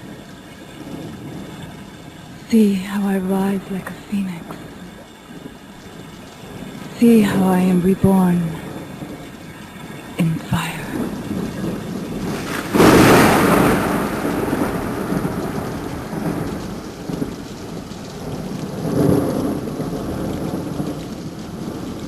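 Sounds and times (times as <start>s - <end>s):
steady rain: 0.0s - 22.0s
thunder clap and rumble: 0.0s - 22.0s.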